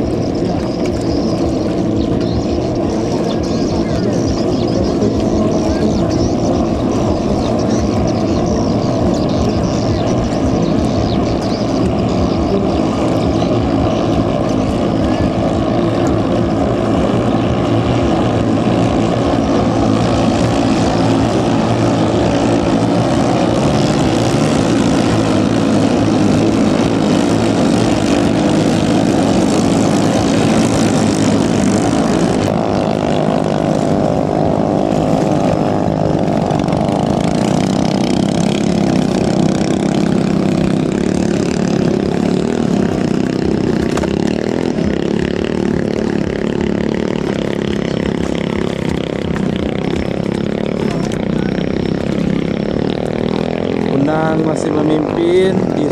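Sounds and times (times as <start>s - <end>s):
boat engines droning: 0.0s - 55.9s.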